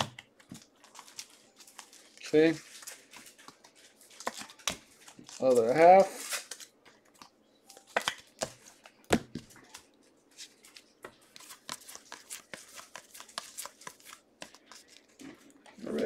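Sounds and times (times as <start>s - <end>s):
trading cards flipping: 0.1s - 9.8s, 10.4s - 16.0s.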